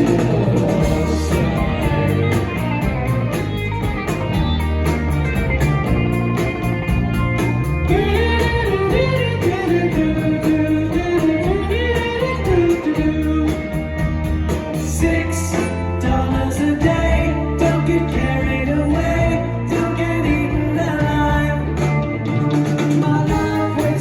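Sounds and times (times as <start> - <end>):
rock band playing live: 0.0 - 24.0
sliding lead melody: 0.0 - 24.0.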